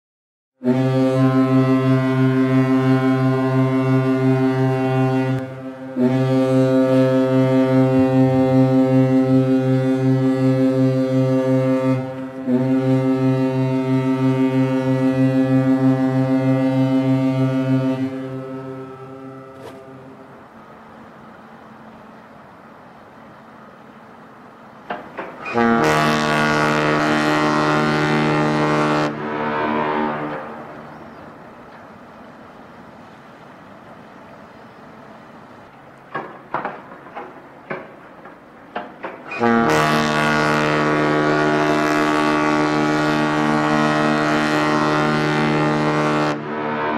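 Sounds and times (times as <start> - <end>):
ship's horn blast: 0.6 - 22.4, 24.4 - 35.1, 39.1 - 46.9.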